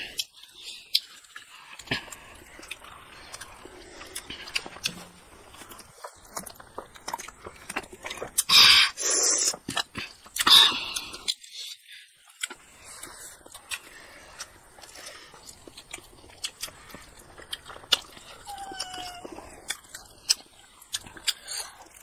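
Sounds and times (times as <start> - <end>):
chewing: 0.0 - 22.0
lip smacks: 0.0 - 22.0.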